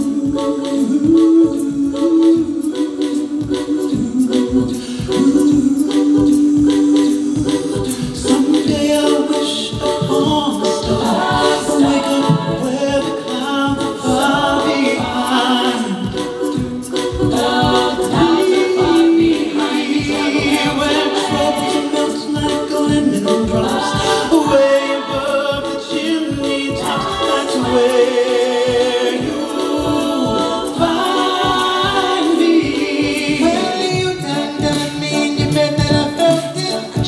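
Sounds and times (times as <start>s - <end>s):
low rhythmic beat: 0.0s - 37.0s
vocal group singing in harmony: 0.0s - 37.0s.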